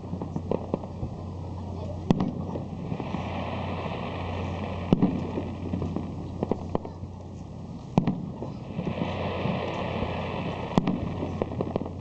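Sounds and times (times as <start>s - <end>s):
fireworks rumble and crackle: 0.0s - 12.0s.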